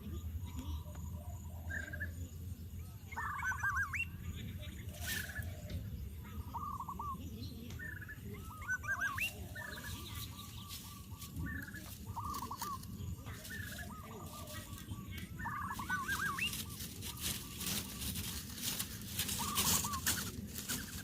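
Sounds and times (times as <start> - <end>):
bird calling: 3.1 - 21.0.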